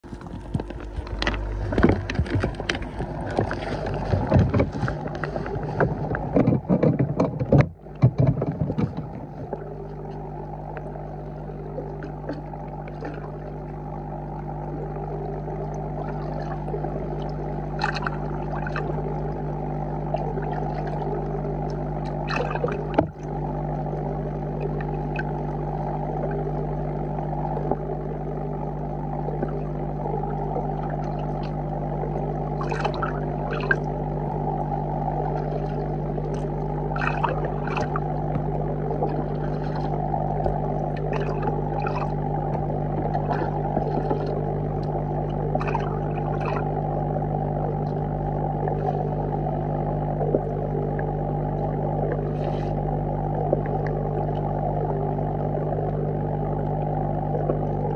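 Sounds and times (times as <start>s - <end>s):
faint underwater clicks: 0.0s - 57.9s
low underwater hum: 0.0s - 57.9s
water sloshing and splashing: 0.0s - 57.9s.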